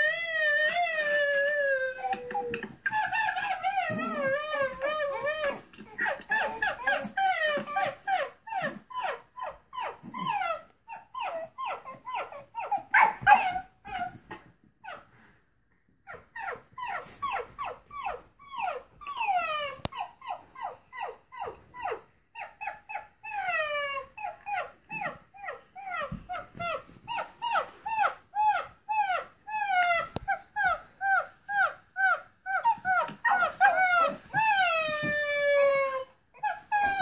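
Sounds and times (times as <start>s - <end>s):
small dog yipping: 0.0s - 15.1s, 16.0s - 37.0s.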